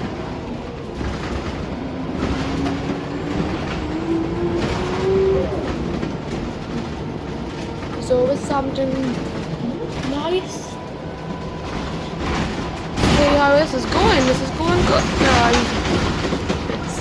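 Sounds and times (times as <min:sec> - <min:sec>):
bus road rumble and rattle: 0:00.0 - 0:17.0.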